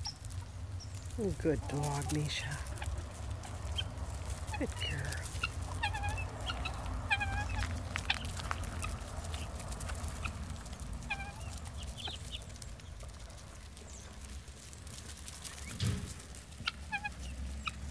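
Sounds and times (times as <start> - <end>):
hens clucking: 0.0 - 17.9.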